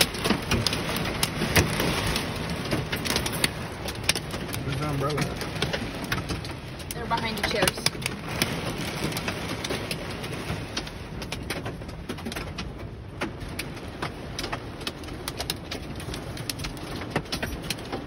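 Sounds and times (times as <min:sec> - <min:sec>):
hailstones striking car: 0:00.0 - 0:18.0
heavy rain on car roof: 0:00.0 - 0:18.0.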